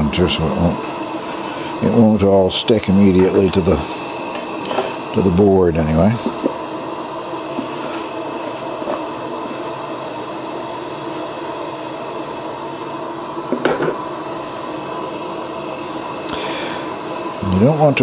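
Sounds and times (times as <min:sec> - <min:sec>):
gas lantern burning: 0:00.0 - 0:18.0
gas stove hissing: 0:00.0 - 0:18.0.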